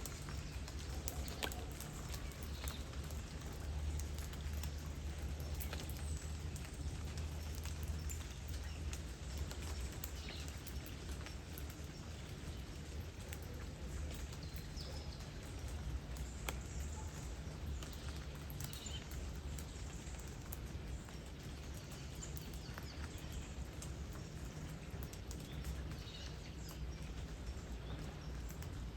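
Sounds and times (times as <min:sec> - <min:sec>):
raindrops ticking: 0:00.0 - 0:28.9.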